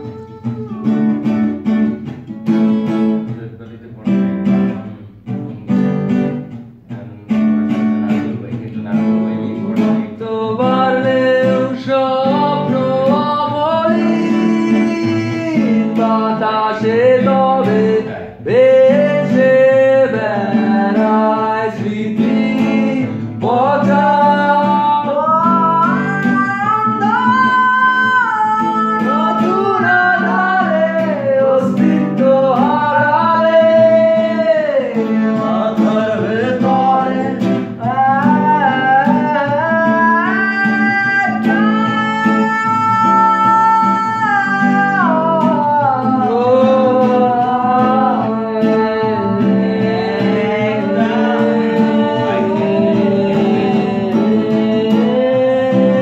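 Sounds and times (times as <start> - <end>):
acoustic guitar strumming chords: 0.0 - 56.0
man singing: 0.0 - 56.0.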